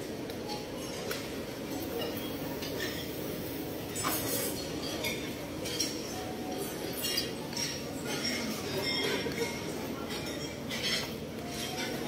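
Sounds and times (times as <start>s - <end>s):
dishes and cutlery clinking: 0.4s - 12.0s.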